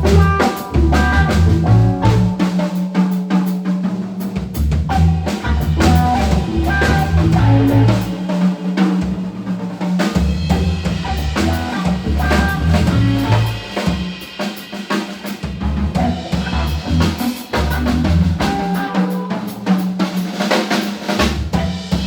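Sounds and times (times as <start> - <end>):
blues band playing: 0.0 - 22.0
drum kit beat: 0.0 - 22.0.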